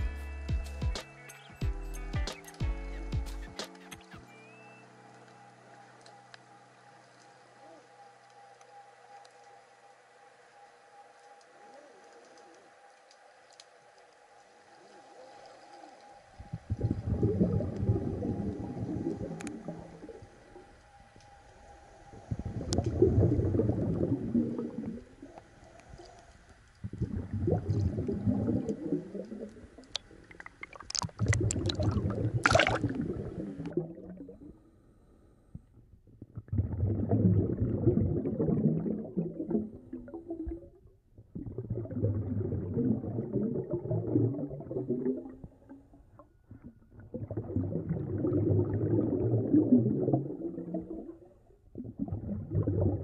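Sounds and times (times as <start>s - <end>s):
underwater surging and gurgling: 5.6s - 34.7s, 35.6s - 53.0s.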